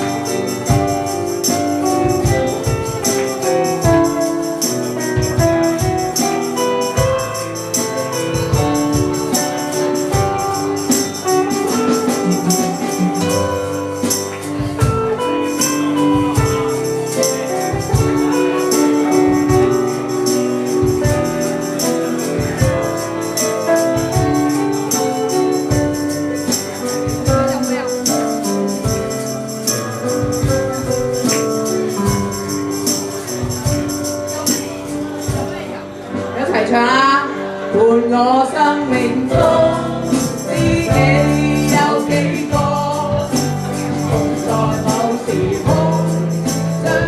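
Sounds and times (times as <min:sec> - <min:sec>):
instrumental pop ballad: 0:00.0 - 0:47.0.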